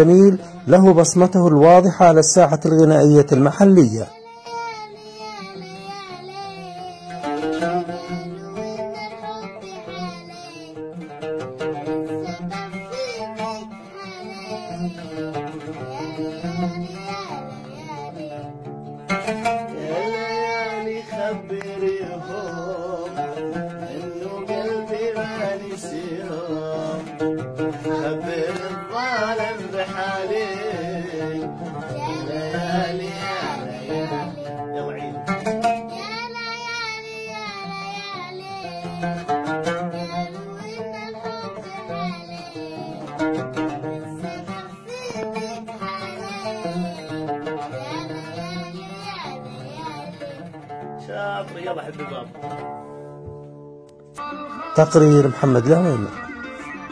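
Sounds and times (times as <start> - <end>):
oud plucked and strummed: 0.0 - 56.9
person singing: 3.4 - 18.5, 19.4 - 50.7, 54.2 - 56.9.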